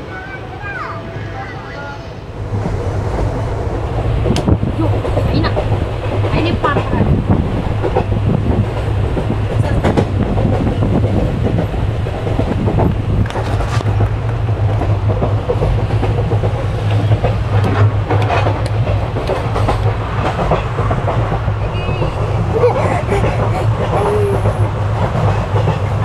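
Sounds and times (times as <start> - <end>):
train running gear rumble: 0.6 - 26.0
wheels clacking over rails: 2.5 - 26.0.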